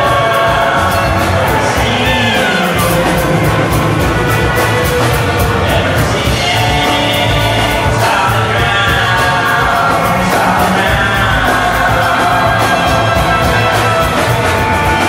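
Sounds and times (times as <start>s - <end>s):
steady drum beat: 0.0s - 15.0s
two men singing together: 0.0s - 15.0s
upright bass: 0.0s - 15.0s.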